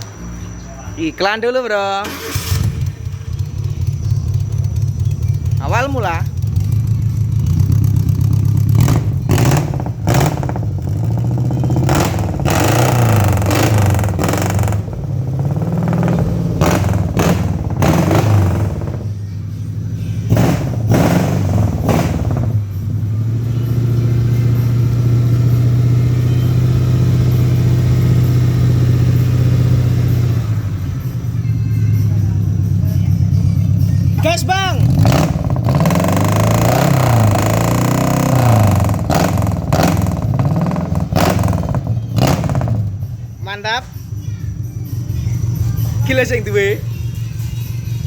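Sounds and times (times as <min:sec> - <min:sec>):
pickup engine revving: 0:01.6 - 0:43.2.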